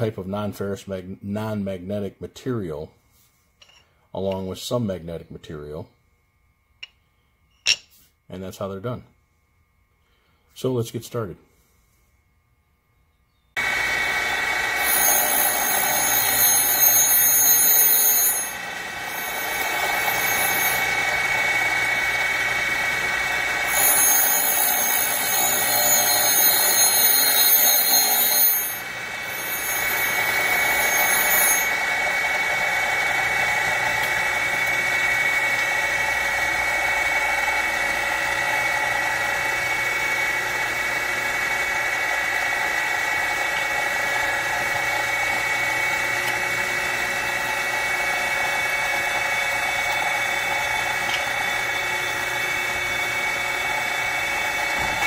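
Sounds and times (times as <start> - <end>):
grinder steady whine: 1.6 - 5.9, 13.2 - 55.0.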